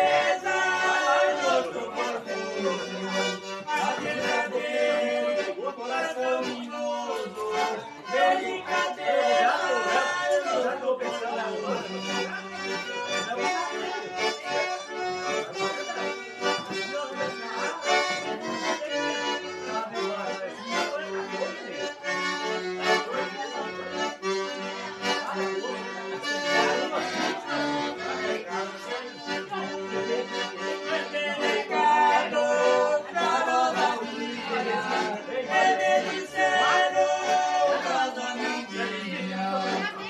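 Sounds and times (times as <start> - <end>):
accordion playing a tune: 0.0 - 40.0.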